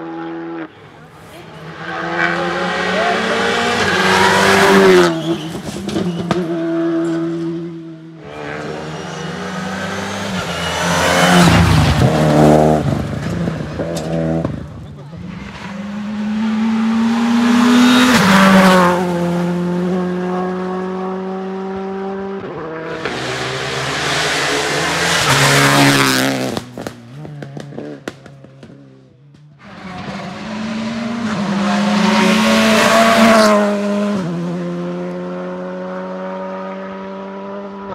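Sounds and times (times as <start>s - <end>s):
rally car passing at high revs: 0.0s - 37.9s.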